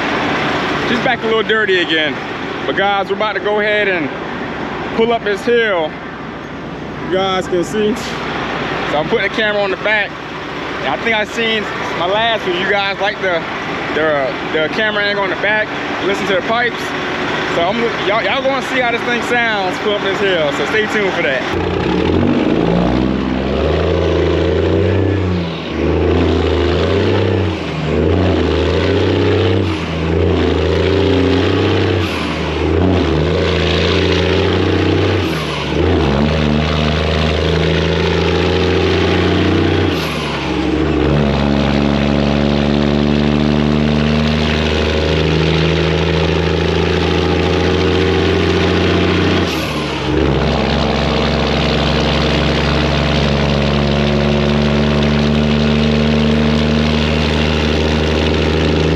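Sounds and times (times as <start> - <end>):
diesel truck engine pulling uphill: 0.0 - 58.9.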